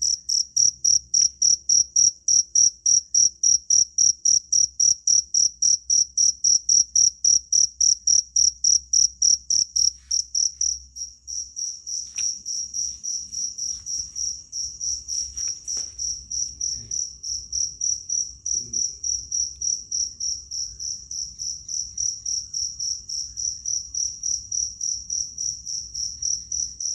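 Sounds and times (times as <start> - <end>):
cricket chirping: 0.0 - 26.9.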